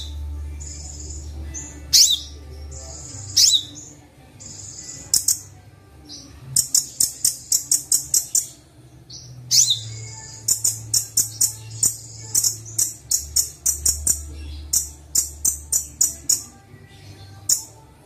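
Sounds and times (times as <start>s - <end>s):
bird calls and whistled notes: 0.0s - 5.5s, 6.1s - 17.8s.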